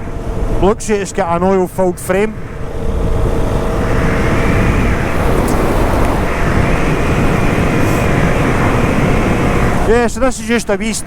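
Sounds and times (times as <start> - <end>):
road and wind rumble: 0.0 - 11.0.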